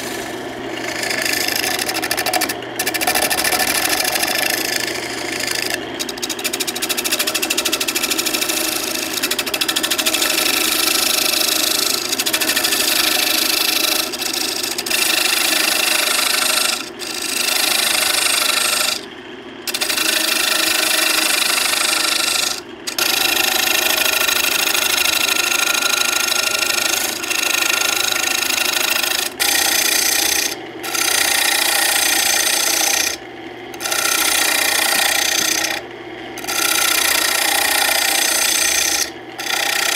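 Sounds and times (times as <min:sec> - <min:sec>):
lathe tool scraping wood: 0:00.0 - 0:35.8, 0:36.4 - 0:39.9
lathe motor hum: 0:00.0 - 0:39.9.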